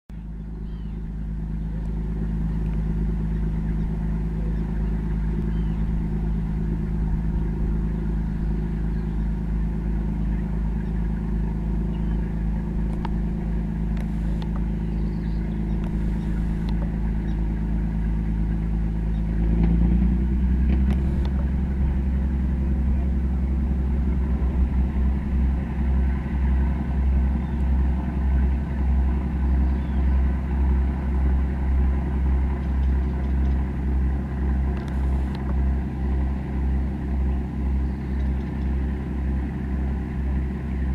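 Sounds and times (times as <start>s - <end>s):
motor boat engine drone: 0.1s - 40.9s.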